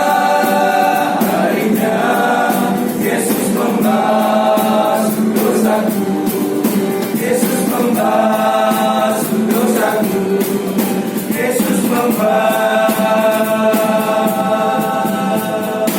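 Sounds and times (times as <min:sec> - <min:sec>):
choir singing a hymn: 0:00.0 - 0:15.9.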